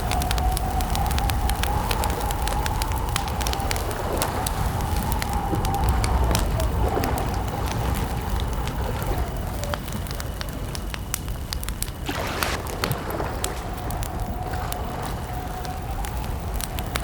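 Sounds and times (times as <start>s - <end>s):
campfire crackling and popping: 0.0s - 17.0s
cricket trill: 0.0s - 17.0s.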